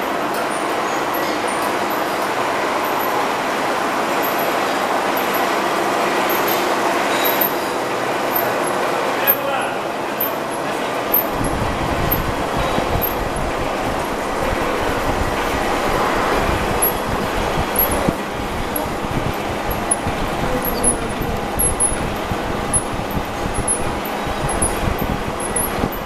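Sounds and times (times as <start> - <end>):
boring machine hum and rumble: 0.0 - 26.0.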